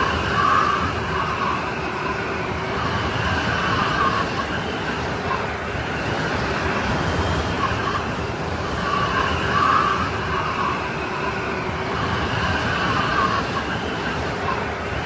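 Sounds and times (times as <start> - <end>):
strong wind blowing: 0.0 - 15.0
wind whistling: 0.0 - 15.0.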